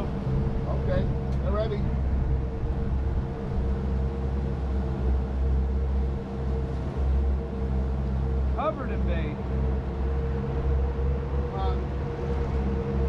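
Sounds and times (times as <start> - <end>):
boat engine droning: 0.0 - 13.0
faint steady whine: 0.0 - 13.0.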